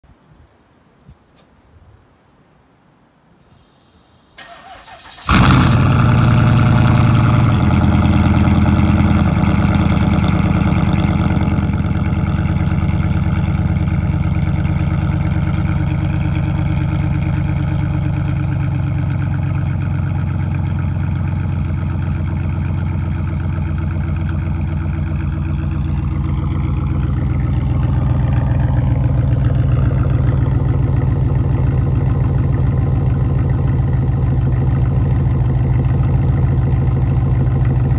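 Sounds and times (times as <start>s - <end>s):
car engine cranking and starting: 4.4s - 37.9s
loud engine fast idle: 4.4s - 37.9s.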